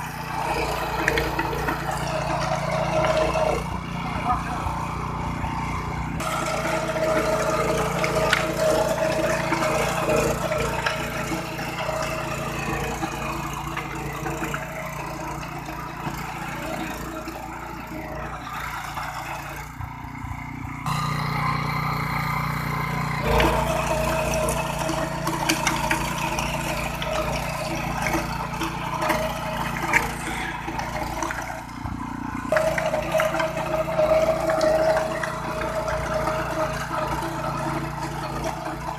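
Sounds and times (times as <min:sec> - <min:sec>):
power tiller engine running: 0:00.0 - 0:38.9.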